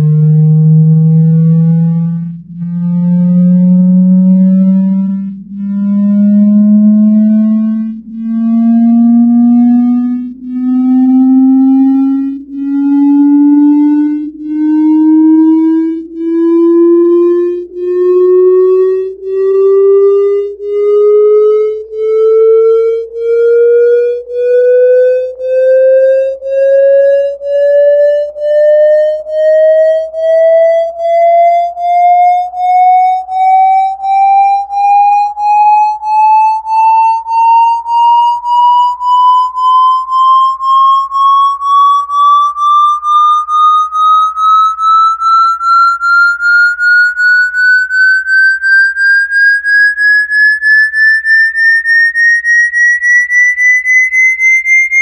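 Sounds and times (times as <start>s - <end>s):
rising electronic test tone: 0.0s - 55.0s.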